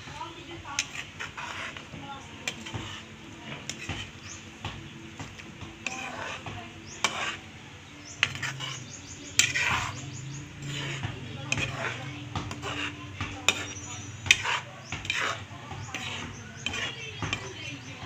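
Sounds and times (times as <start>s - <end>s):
metal ladle scraping a wok: 0.5s - 4.5s, 5.8s - 18.0s.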